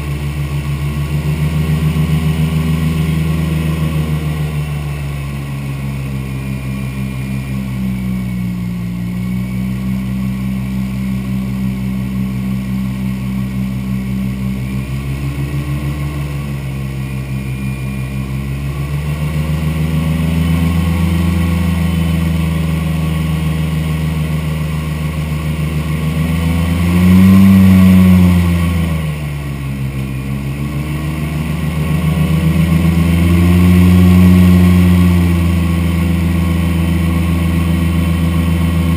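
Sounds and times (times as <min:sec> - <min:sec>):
airboat engine and propeller drone: 0:00.0 - 0:38.9.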